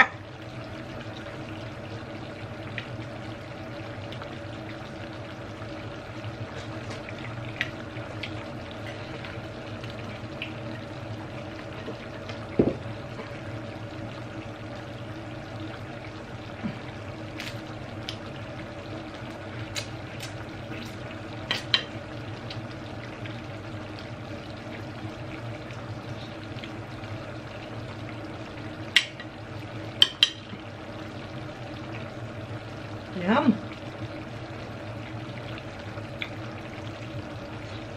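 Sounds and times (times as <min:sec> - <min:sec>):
low hum and hiss: 0:00.0 - 0:37.9.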